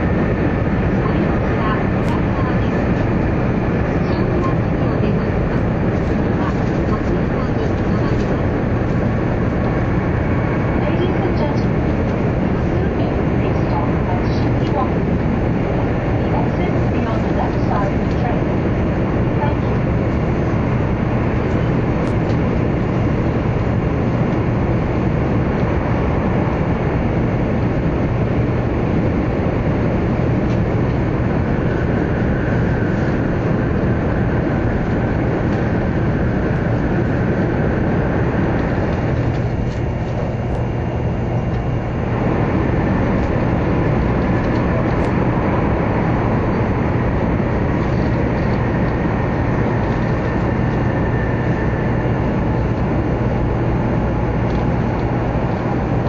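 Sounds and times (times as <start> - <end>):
train interior rumble and roar: 0.0 - 56.0.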